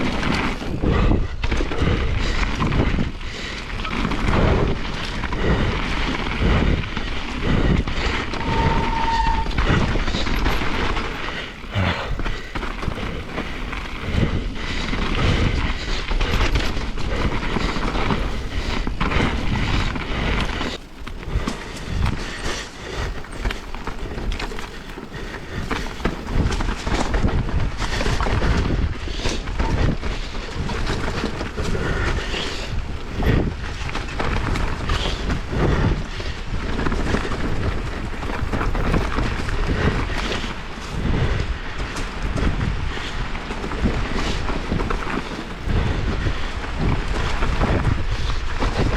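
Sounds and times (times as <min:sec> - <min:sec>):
bike rattling over bumps: 0:00.0 - 0:48.9
tyres rumbling over dirt: 0:00.0 - 0:48.9
wind buffeting microphone: 0:00.0 - 0:48.9.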